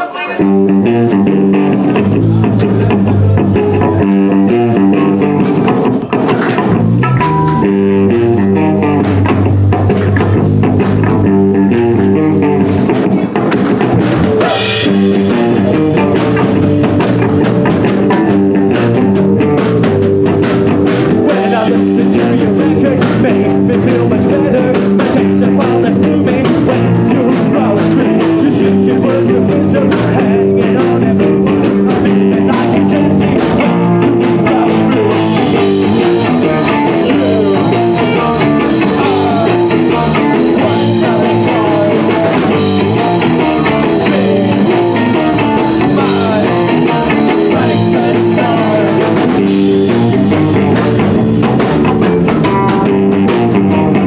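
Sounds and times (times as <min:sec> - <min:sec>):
drum kit with cymbals: 0:00.0 - 0:54.0
electric guitar: 0:00.0 - 0:54.0.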